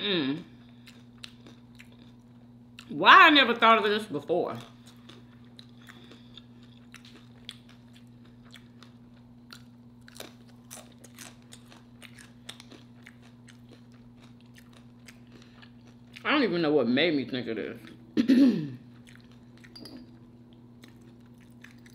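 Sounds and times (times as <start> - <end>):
low electrical hum: 0.0 - 21.9
chewing and crunching chips: 0.4 - 3.0, 4.1 - 16.5, 17.6 - 18.1, 18.8 - 21.9.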